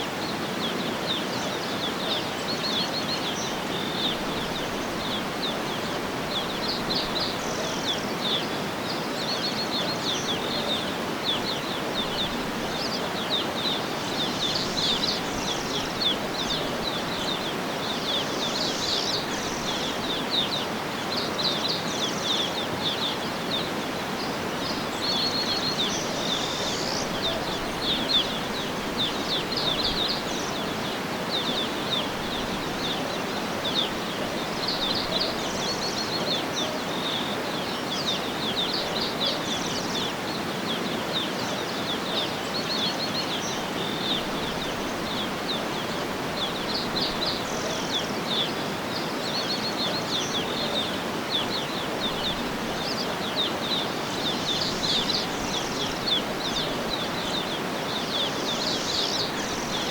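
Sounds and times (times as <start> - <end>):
outdoor background hiss: 0.0 - 59.9
songbirds chirping: 0.0 - 59.9.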